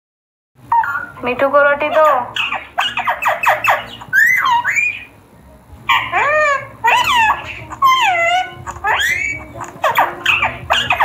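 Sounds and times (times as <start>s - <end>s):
parrot chattering and squawking: 0.6s - 5.2s, 5.8s - 11.0s.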